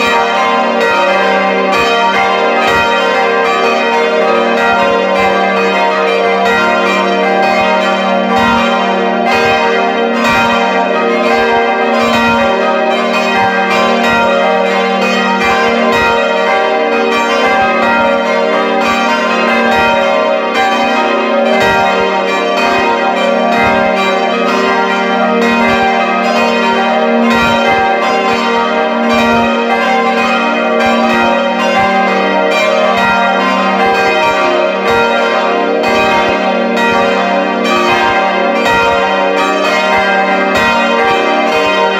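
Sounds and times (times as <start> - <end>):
church bells ringing: 0.0 - 41.9.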